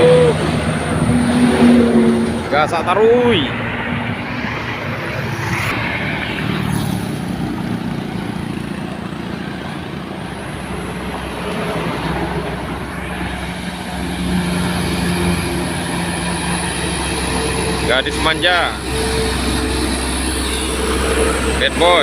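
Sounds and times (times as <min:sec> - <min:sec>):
diesel truck engine drone: 0:00.0 - 0:22.0
road noise: 0:00.0 - 0:22.0.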